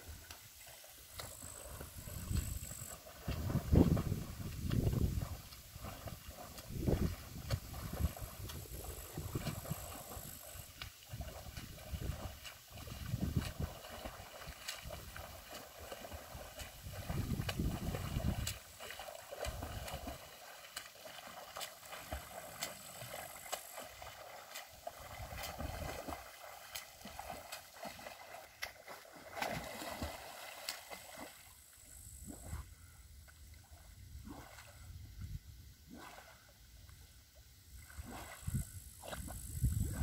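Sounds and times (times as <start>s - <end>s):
swimming strokes splashing: 0.0s - 32.6s, 37.8s - 39.3s.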